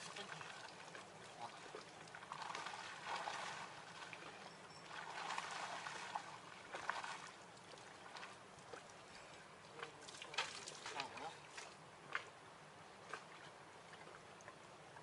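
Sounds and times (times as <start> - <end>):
river water lapping on stone: 0.0 - 15.0.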